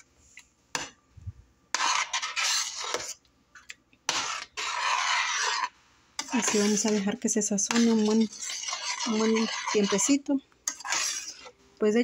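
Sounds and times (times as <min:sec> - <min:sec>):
salsa frying: 0:00.0 - 0:12.0
spoon scraping a saucepan: 0:01.7 - 0:11.6.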